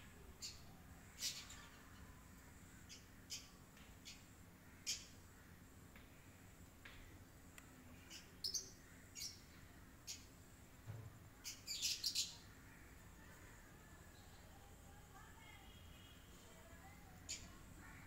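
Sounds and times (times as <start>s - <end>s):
small birds chirping: 0.0s - 10.6s, 11.3s - 18.0s.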